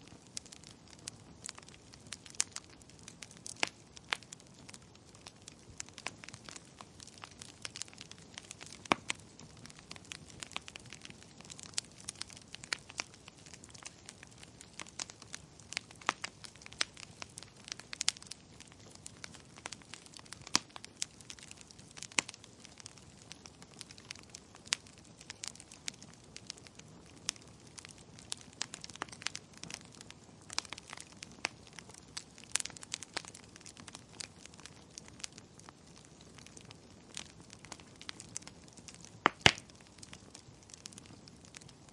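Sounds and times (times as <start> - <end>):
faint steady hiss: 0.0 - 41.9
logs crackling with pops: 0.0 - 41.9.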